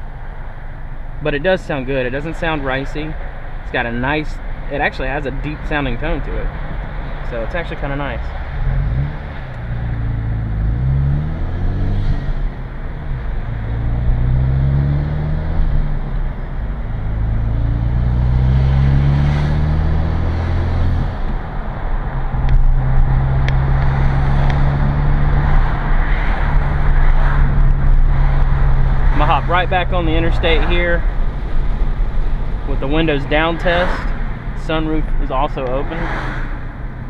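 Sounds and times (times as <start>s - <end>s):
car engine accelerating: 4.7s - 37.0s.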